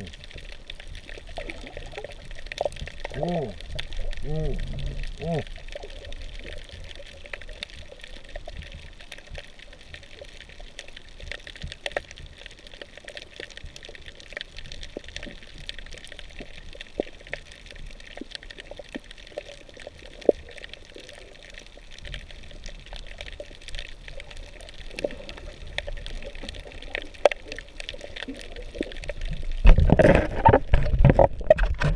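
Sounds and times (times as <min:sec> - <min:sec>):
reef clicks and crackles: 0:00.0 - 0:31.9
rough burst of water noise: 0:00.0 - 0:31.9.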